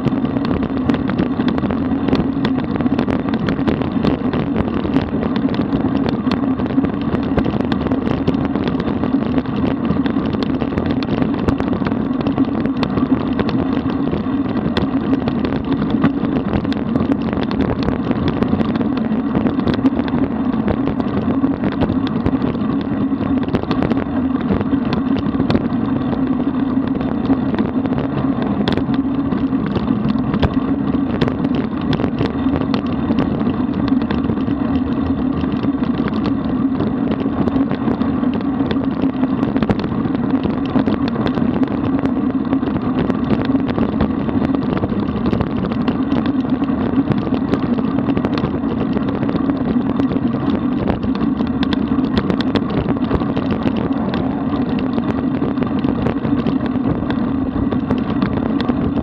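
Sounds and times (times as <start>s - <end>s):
bike tyres rolling on road: 0.0s - 59.0s
small clicks and rattles: 0.0s - 59.0s
wind rushing on microphone: 0.0s - 59.0s.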